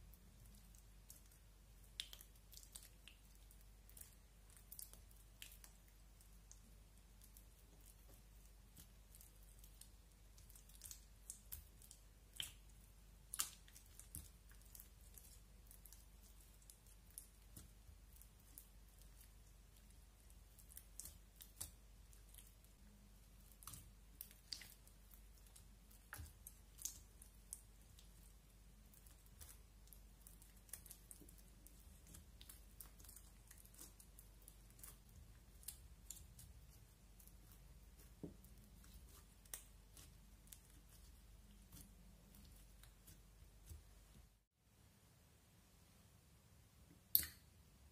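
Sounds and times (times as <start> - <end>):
slime squishing by hand: 0.0 - 44.5.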